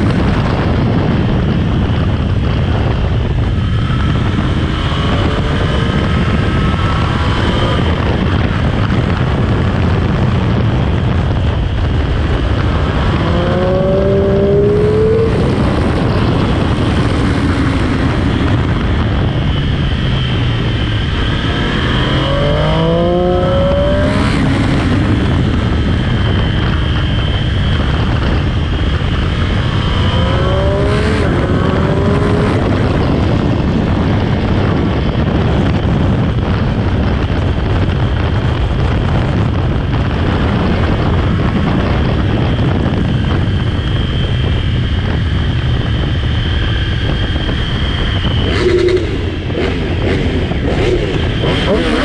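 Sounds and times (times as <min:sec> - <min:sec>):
motorcycle engine revving: 0:00.0 - 0:52.0
wind rush: 0:00.0 - 0:52.0.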